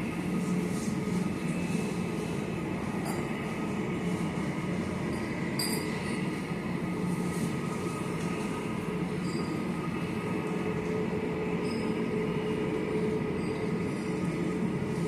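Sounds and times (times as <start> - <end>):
mechanical drone with whine: 0.0 - 15.0.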